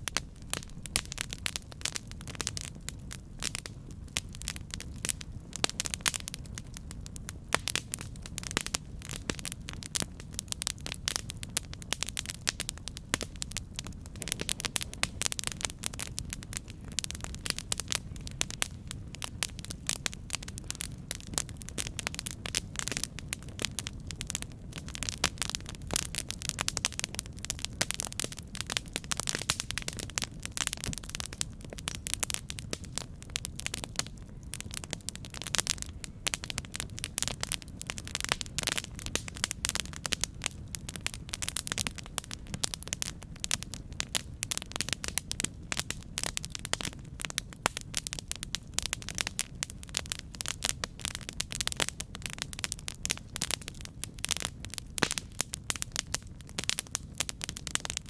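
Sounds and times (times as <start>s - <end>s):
burning wood crackling and popping: 0.0s - 58.0s
low rumble of flames: 0.0s - 58.0s.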